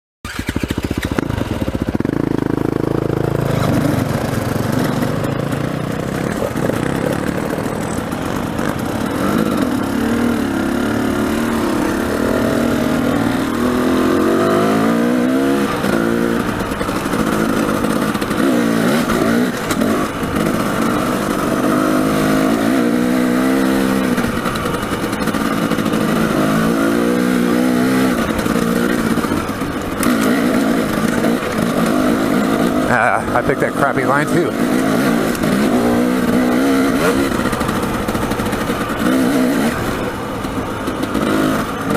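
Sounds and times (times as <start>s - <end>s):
dirt bike engine revving: 0.3s - 41.9s.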